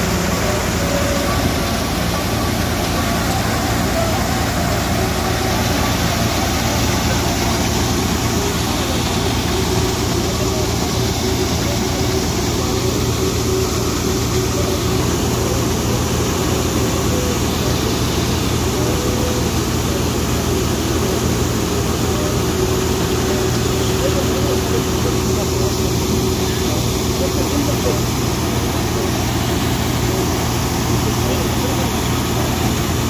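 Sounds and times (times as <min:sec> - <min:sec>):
combine harvester drone: 0:00.0 - 0:33.0.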